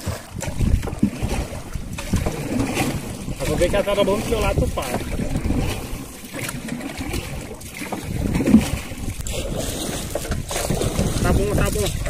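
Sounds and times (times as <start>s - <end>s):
canoe bump: 0.0s - 12.0s
water lapping and splashing: 0.0s - 12.0s
wind buffeting microphone: 0.0s - 12.0s.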